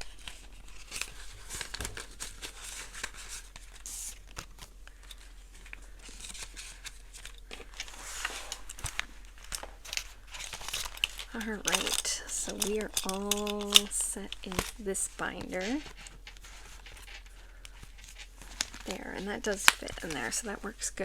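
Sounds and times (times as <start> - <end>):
paper banknotes rustling: 0.0 - 21.0.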